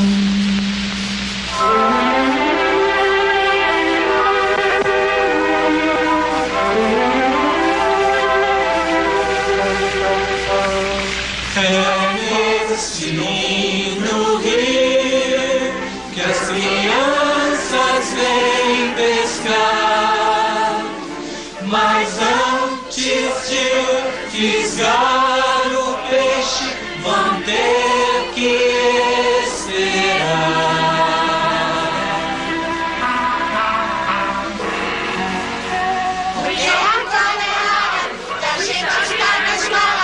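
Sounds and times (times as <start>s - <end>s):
choir singing with music: 0.0s - 40.0s.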